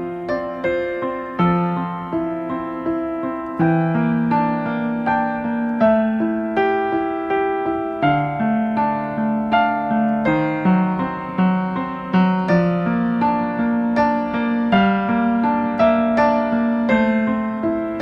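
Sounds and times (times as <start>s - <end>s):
calm piano music: 0.0s - 18.0s.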